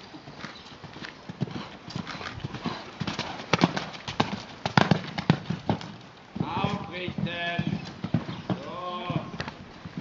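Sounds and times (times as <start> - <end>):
horse hooves cantering on dirt: 0.0 - 10.0.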